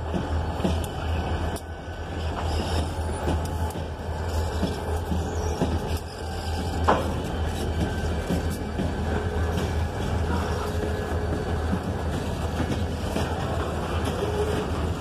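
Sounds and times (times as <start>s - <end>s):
diesel locomotive engine rumble: 0.0s - 15.0s
train wheels knocking over rail joints: 2.3s - 15.0s.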